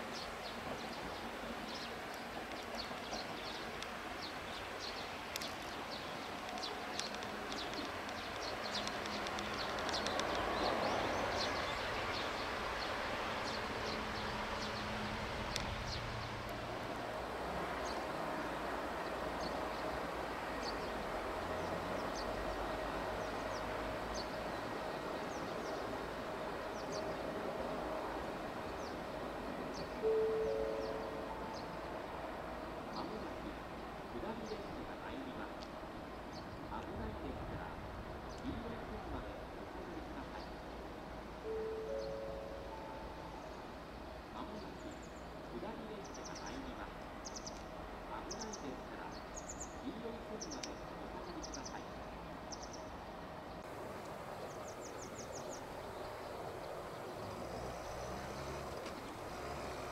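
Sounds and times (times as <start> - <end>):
electric locomotive rumbling: 0.0 - 48.1.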